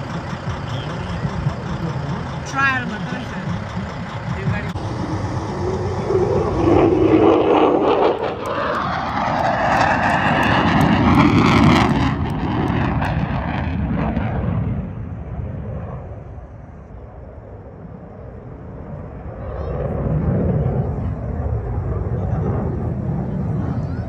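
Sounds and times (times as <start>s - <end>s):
airplane passing low: 0.0s - 24.0s.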